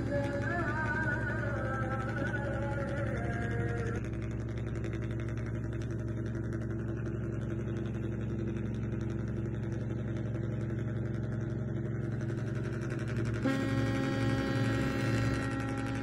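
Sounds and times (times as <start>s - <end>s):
motor humming steadily: 0.0s - 16.0s.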